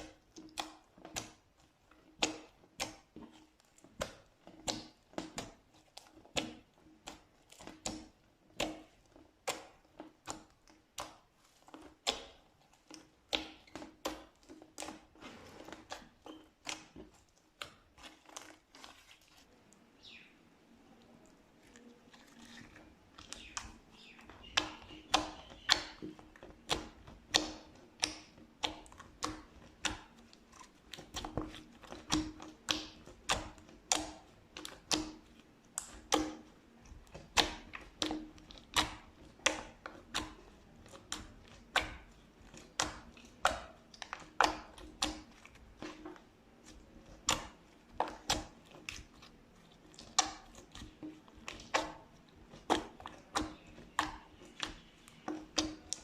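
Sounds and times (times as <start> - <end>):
slime squished by hand: 0.0 - 20.2, 20.9 - 56.0.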